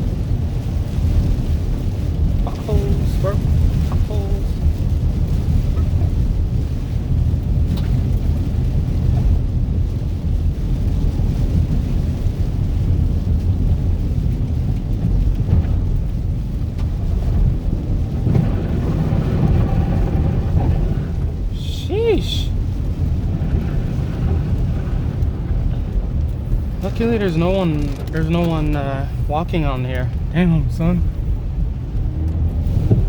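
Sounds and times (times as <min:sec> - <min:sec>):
car driving heard from inside: 0:00.0 - 0:33.0.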